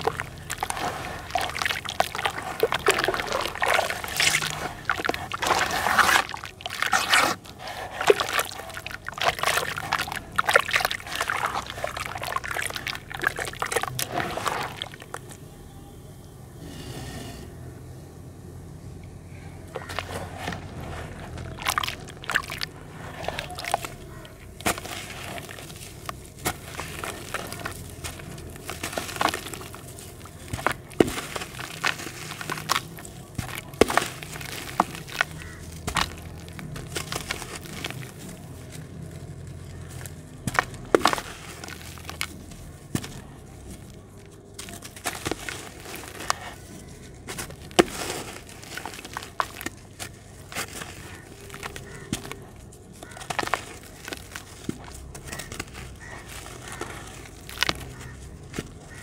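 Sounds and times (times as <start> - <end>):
grit pattering into water: 0.0 - 15.4, 19.6 - 59.0
dirt lumps crumbling: 0.0 - 15.5, 19.4 - 59.0.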